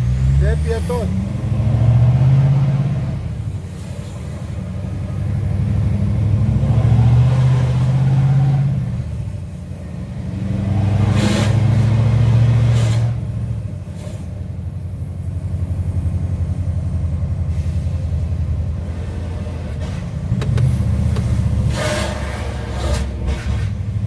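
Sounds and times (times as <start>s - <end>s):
diesel truck engine pulling: 0.0s - 24.0s.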